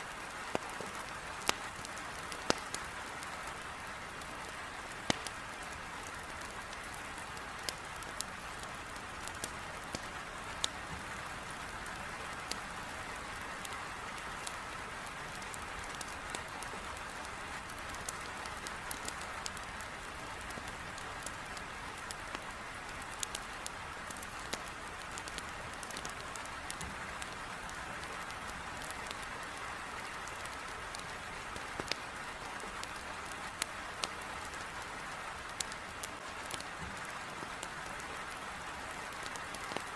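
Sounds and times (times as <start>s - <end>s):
heavy rain on a window: 0.0s - 39.9s
wood fire crackling: 0.1s - 39.9s.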